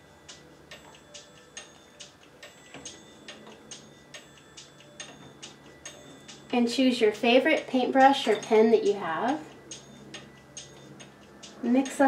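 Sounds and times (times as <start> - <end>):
metallic ticking: 0.0 - 12.0.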